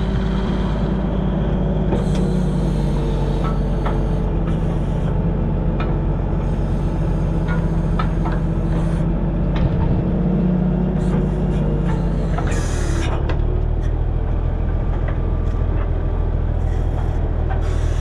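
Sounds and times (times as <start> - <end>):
diesel engine running steadily: 0.0 - 18.0.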